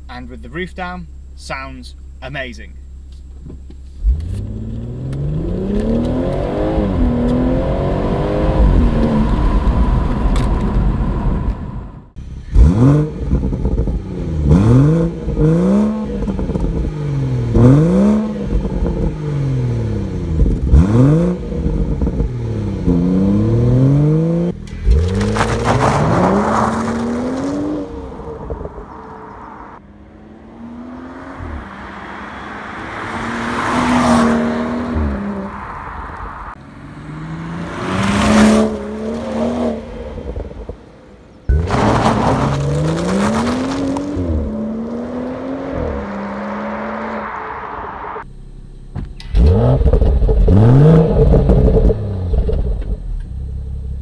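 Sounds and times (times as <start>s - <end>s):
car engine accelerating: 3.0s - 54.0s
engine revs blipped: 4.0s - 53.5s.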